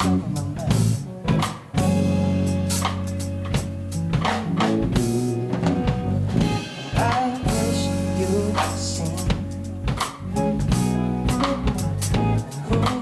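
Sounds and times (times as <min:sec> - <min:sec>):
drum kit beat with cymbals: 0:00.0 - 0:13.0
electric bass: 0:00.0 - 0:13.0
electric guitar: 0:00.0 - 0:13.0.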